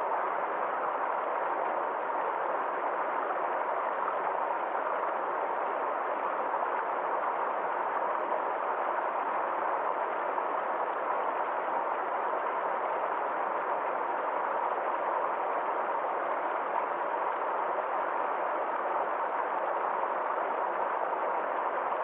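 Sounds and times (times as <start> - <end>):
stream flowing: 0.1 - 22.0.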